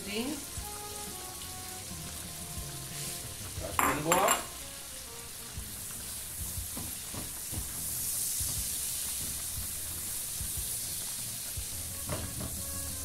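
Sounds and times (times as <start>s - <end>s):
garlic sizzling in a frying pan: 0.0s - 13.0s.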